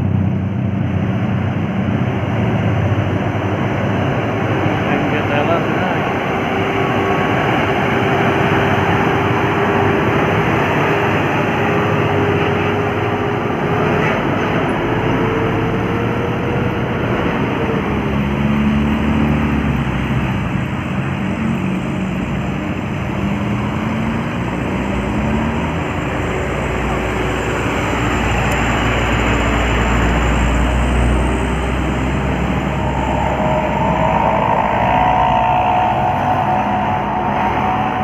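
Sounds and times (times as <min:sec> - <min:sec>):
heavy vehicle engine labouring: 0:00.0 - 0:38.0.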